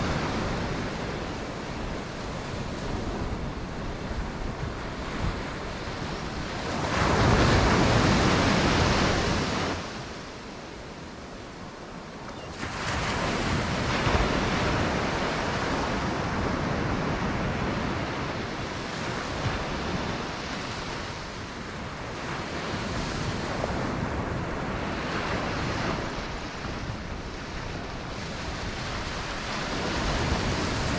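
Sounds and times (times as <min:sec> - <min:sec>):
ocean surf on a beach: 0:00.0 - 0:30.9.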